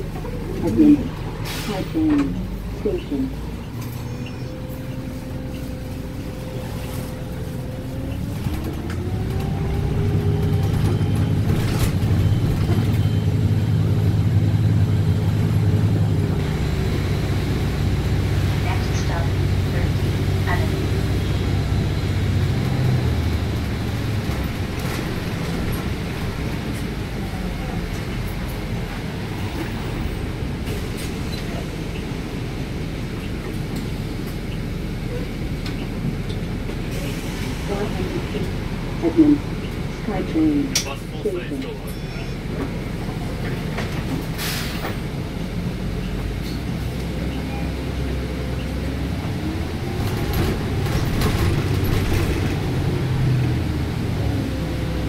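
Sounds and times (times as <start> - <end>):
bus motor hum: 0.0 - 55.0
road noise: 0.0 - 55.0.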